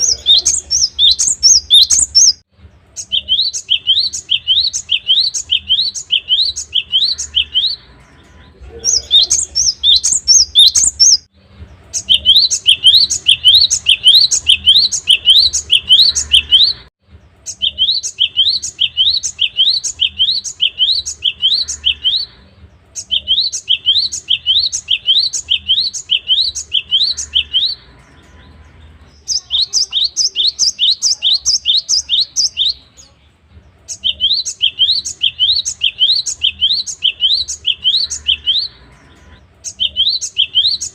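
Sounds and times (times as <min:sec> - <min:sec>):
bird singing whistled notes: 0:00.0 - 0:11.3, 0:11.9 - 0:33.2, 0:33.8 - 0:40.9.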